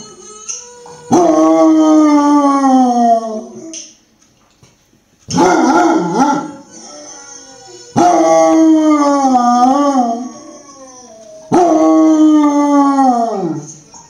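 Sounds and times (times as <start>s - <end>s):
dog howling: 0.9s - 3.8s, 5.3s - 13.8s.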